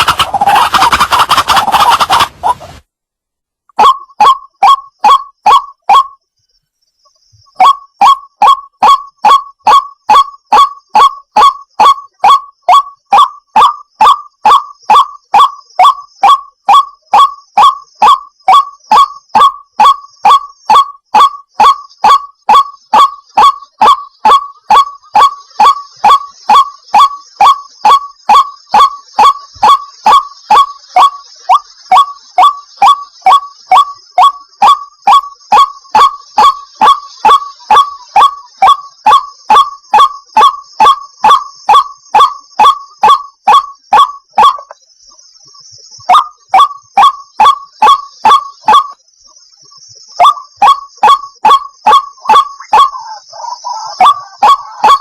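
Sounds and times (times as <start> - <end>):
waterhen calling: 0.0 - 2.8, 3.8 - 6.1, 7.6 - 44.8, 50.2 - 55.0.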